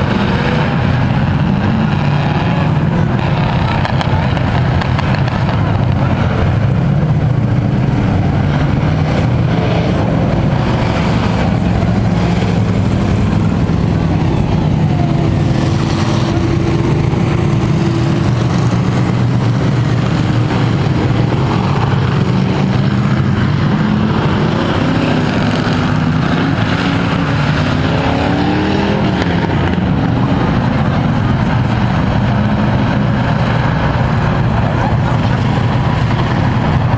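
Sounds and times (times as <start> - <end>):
race truck engines running: 0.0 - 36.9.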